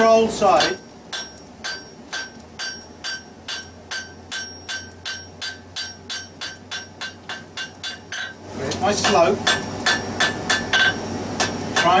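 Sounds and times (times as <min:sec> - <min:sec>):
hammer striking steel on anvil: 0:00.5 - 0:08.4, 0:09.0 - 0:12.0.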